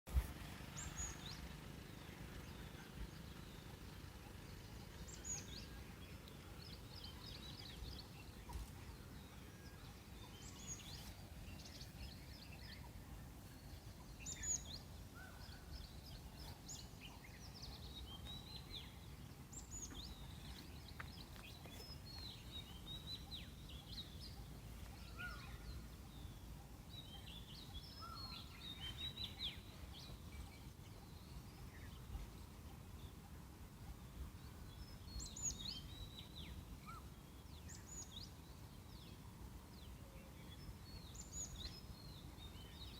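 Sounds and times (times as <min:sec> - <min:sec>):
birds chirping: 0:00.1 - 0:42.9
faint low rumble: 0:00.1 - 0:42.9.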